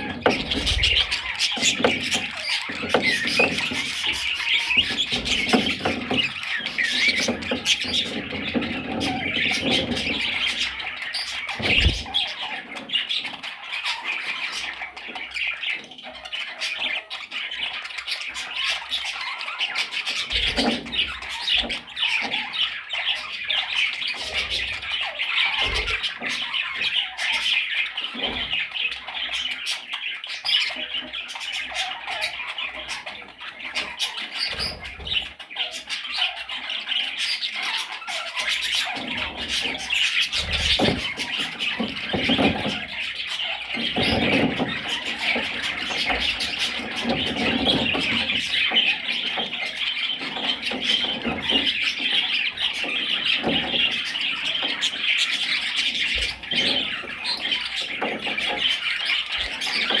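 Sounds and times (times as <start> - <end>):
budgerigars chattering and squawking: 0.0 - 60.0.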